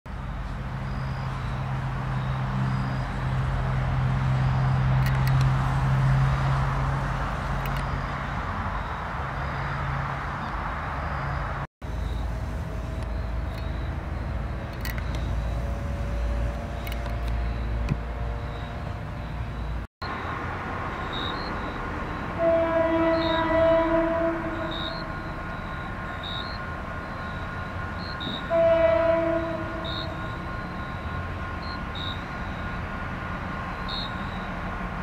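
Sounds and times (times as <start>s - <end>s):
diesel train rumble: 0.1s - 35.0s.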